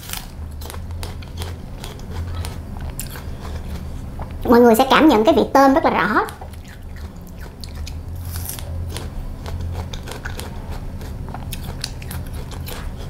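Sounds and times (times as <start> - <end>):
crunchy fruit being chewed: 0.0 - 4.4, 6.2 - 13.0.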